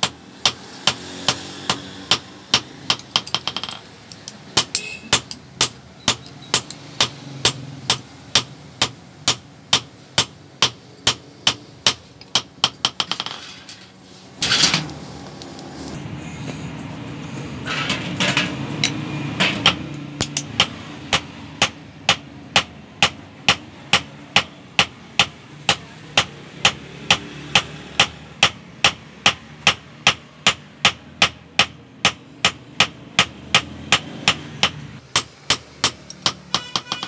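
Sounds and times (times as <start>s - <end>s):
hammer striking metal on anvil: 0.0s - 3.8s, 4.6s - 13.4s, 18.8s - 37.0s.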